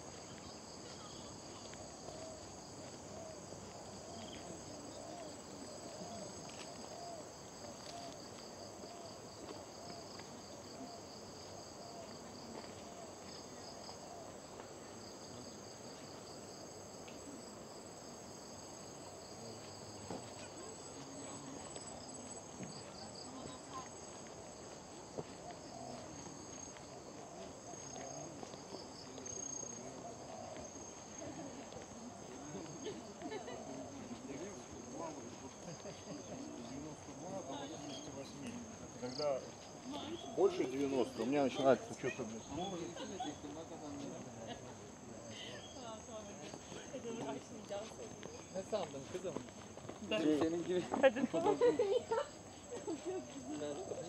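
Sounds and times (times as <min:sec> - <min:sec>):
faint indistinct voices: 0:00.0 - 0:54.0
insects chorus: 0:00.0 - 0:54.0
rapidly pulsing insect trill: 0:00.0 - 0:54.0.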